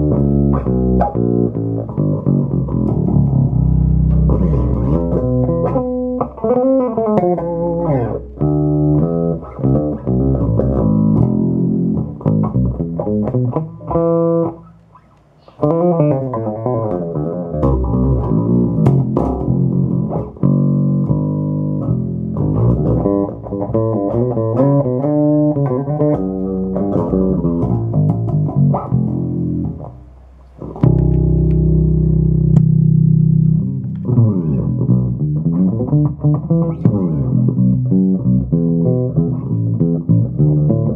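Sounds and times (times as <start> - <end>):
electric bass plucked notes: 0.0 - 40.9.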